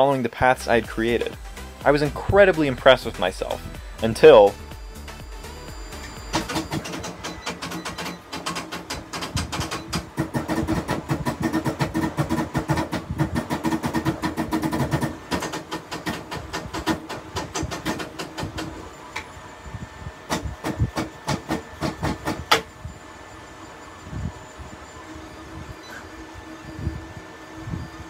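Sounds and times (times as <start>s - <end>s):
printer motors clicking and buzzing: 2.1s - 28.0s.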